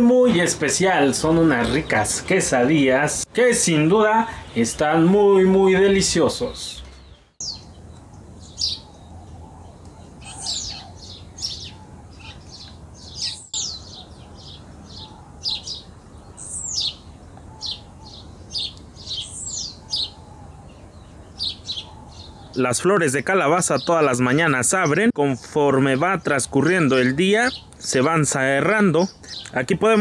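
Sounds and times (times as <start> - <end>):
songbirds chirping and singing: 0.0 - 30.0.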